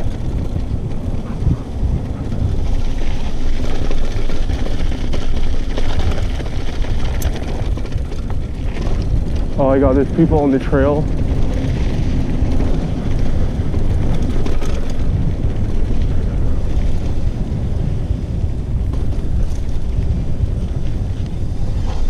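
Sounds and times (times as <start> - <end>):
bike tyres rattling on dirt: 0.0 - 22.0
wind on microphone: 0.0 - 22.0.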